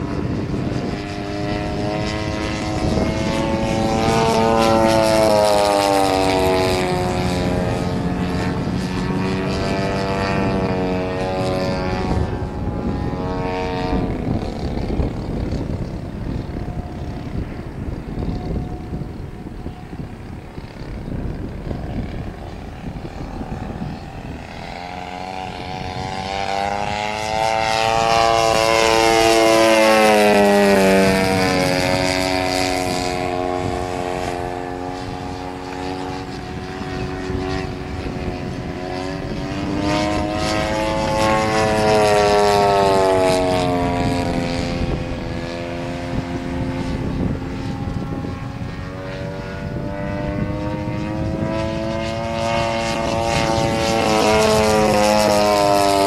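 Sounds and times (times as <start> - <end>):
model plane engine droning: 0.0 - 56.0.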